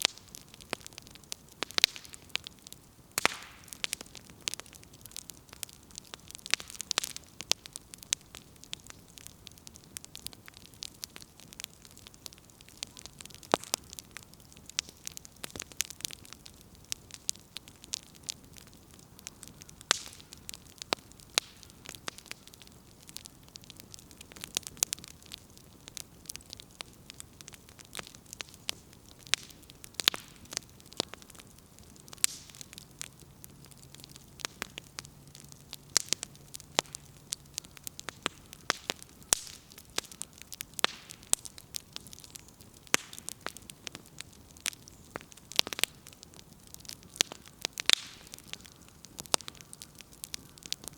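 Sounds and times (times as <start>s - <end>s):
campfire crackling: 0.0s - 50.9s.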